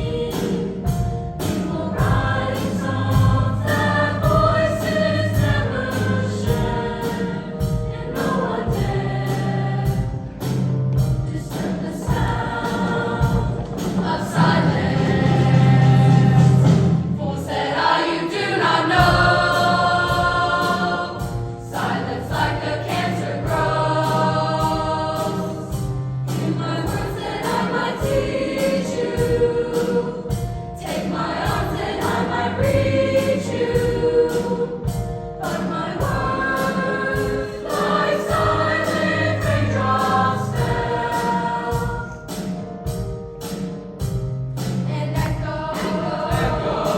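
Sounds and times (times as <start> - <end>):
girls' choir singing harmonies: 0.0 - 43.0, 44.6 - 46.9
accompaniment with steady beat: 0.0 - 46.9.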